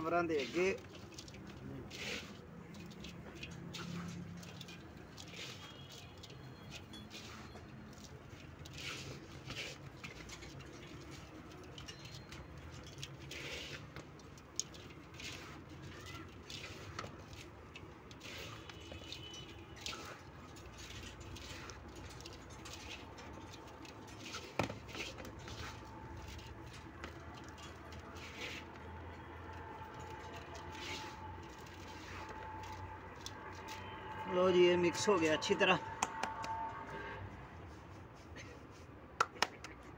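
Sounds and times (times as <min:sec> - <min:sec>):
hands mixing feed with straw: 0:00.0 - 0:36.6.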